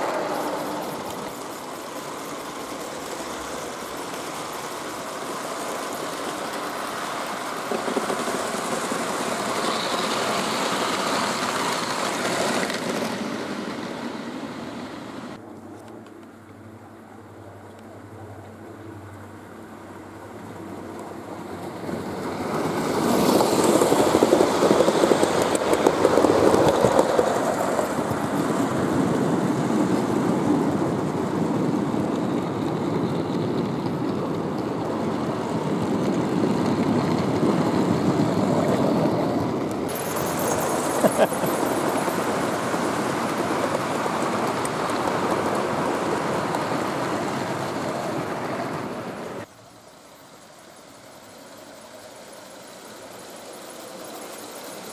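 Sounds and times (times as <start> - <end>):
model train wheels rolling on rails: 0.0 - 15.4, 20.4 - 54.9.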